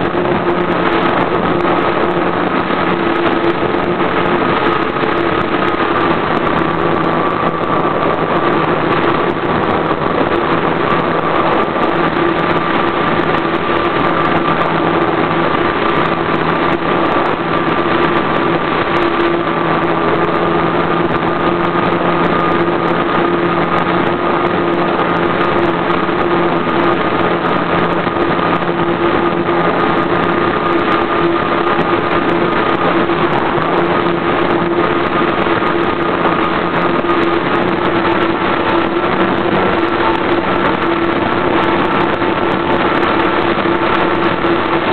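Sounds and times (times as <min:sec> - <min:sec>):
model airplane engine buzzing: 0:00.0 - 0:44.9.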